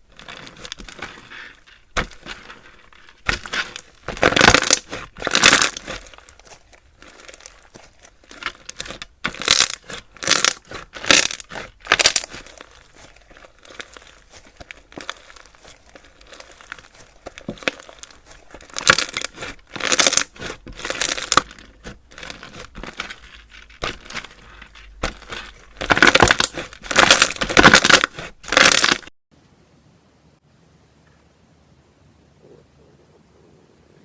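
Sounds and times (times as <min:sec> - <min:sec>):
slime crackling and crinkling: 0:00.0 - 0:29.1.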